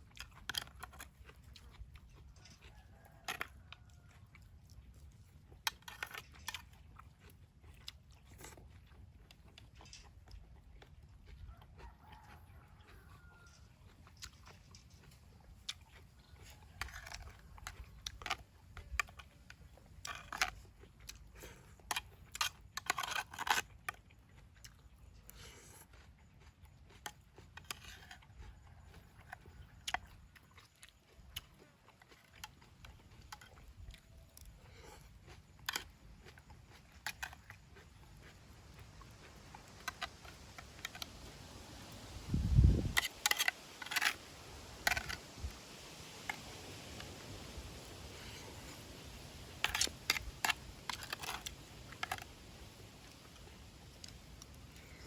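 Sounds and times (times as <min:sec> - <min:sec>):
person crunching and chewing: 0:00.0 - 0:55.0.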